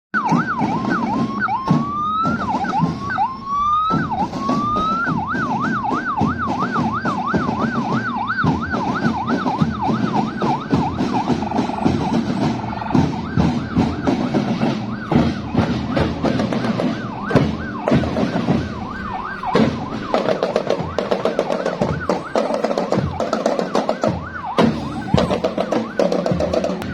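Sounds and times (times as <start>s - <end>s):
electronic siren wailing and yelping: 0.2s - 26.9s
marching band drumming: 0.2s - 26.9s.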